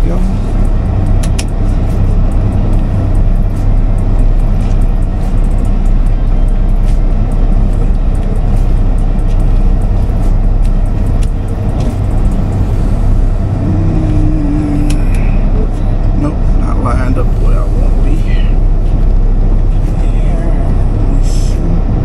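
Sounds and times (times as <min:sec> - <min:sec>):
high steady tone: 0:00.0 - 0:21.5
diesel truck engine running: 0:00.0 - 0:22.0.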